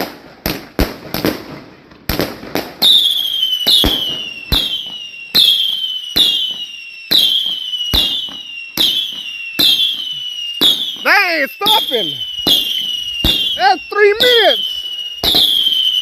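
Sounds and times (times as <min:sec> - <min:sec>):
fireworks bangs: 0:00.0 - 0:16.0
falling firework whistle: 0:02.6 - 0:16.0.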